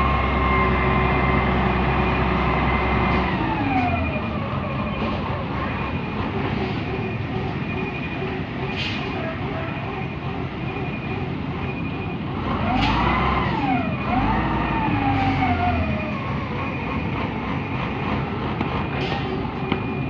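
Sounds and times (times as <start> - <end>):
diesel engine revving: 0.0 - 20.0.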